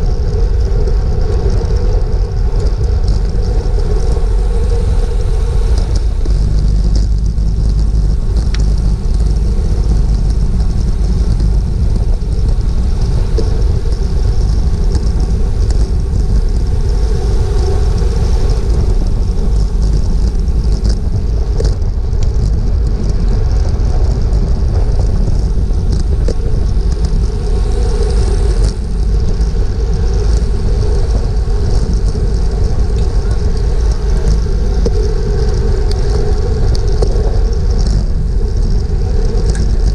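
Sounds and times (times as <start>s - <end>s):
bicycle road noise: 0.0s - 39.9s
wind rush: 0.0s - 39.9s.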